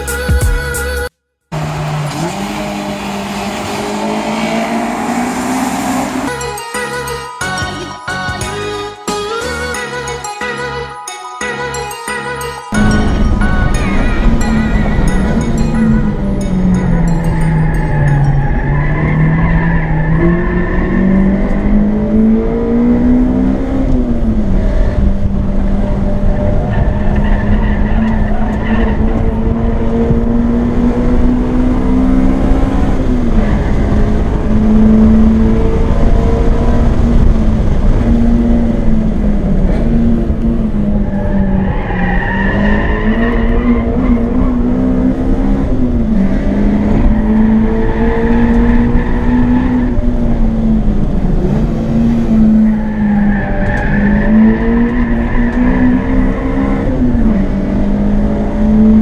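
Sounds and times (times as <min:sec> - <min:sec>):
car engine revving: 0:01.5 - 0:06.6, 0:12.6 - 0:59.0.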